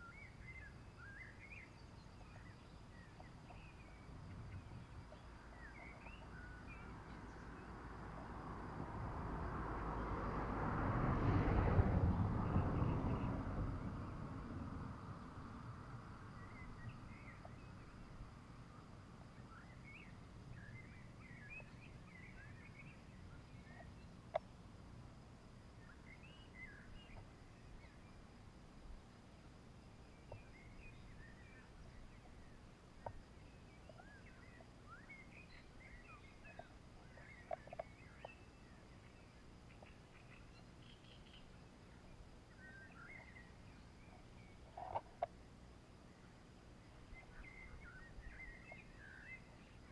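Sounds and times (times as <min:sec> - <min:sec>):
birds chirping: 0:00.0 - 0:08.8, 0:12.1 - 0:49.9.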